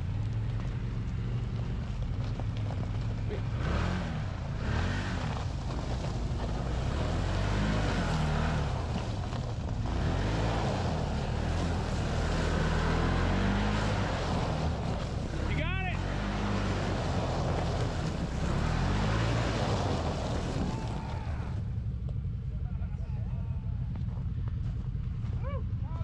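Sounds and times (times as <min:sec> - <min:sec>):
utility vehicle engine revving: 0:00.0 - 0:22.2.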